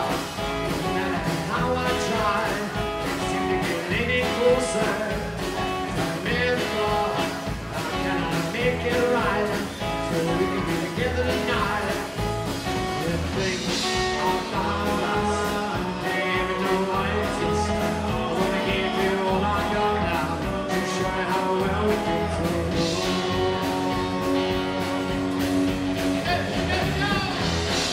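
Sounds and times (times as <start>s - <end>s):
man singing: 0.0s - 25.4s, 26.0s - 27.9s
drum kit beat: 0.0s - 27.9s
strummed acoustic guitar: 0.0s - 27.9s.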